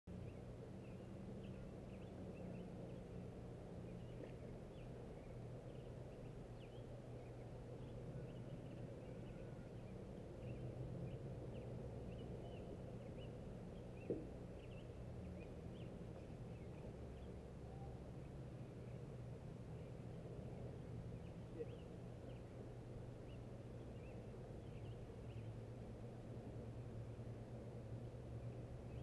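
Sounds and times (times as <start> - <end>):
faint bird chirps: 0.1 - 29.0
low steady hum: 0.1 - 29.0.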